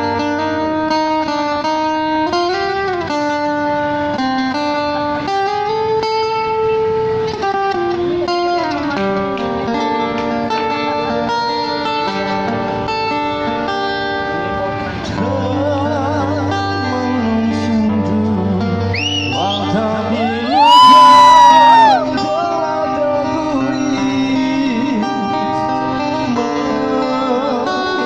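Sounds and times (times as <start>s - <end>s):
guitar music through amplifier: 0.0s - 28.0s.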